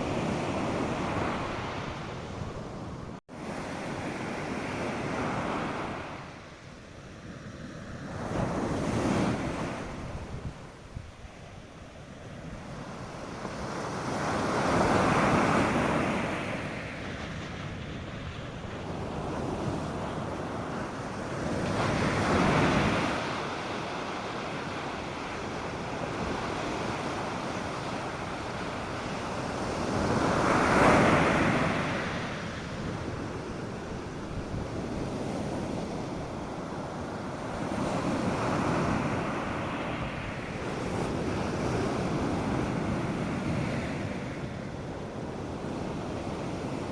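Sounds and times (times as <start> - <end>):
waves washing onto beach: 0.0 - 46.9
wind on microphone: 7.1 - 46.9.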